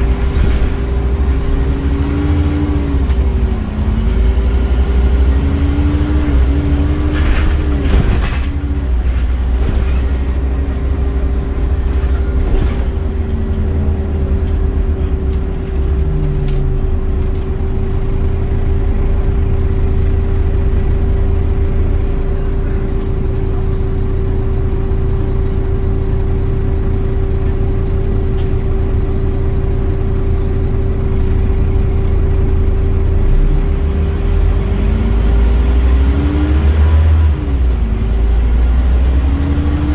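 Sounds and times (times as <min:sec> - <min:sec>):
bus engine rumble and whine: 0:00.0 - 0:39.9.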